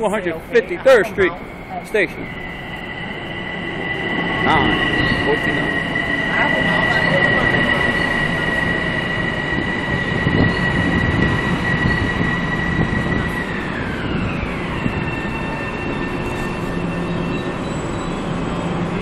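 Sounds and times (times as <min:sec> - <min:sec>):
electric train high whine: 0:00.0 - 0:19.0
train cars rumbling: 0:00.0 - 0:19.0.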